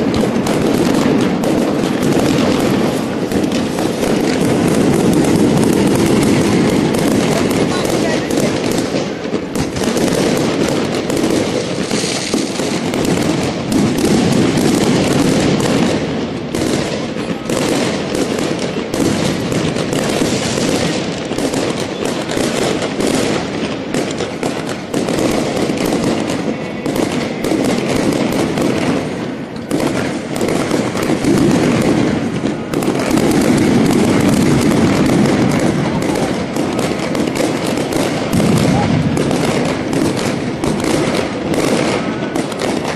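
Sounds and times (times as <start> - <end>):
fireworks crackling and banging: 0.0 - 42.9.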